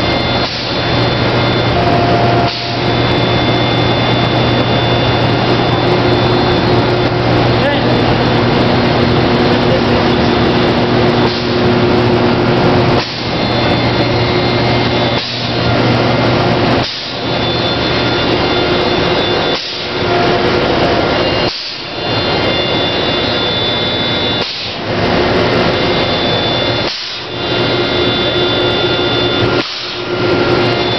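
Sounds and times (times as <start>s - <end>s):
air compressor and paint pump hissing: 0.0s - 30.9s.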